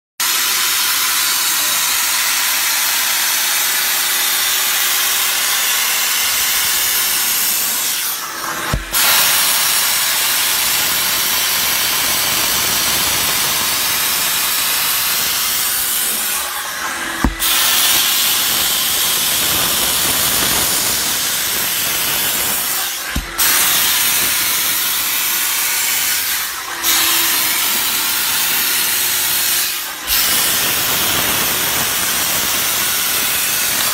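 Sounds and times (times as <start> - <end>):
steam jet hissing: 0.2 - 33.9.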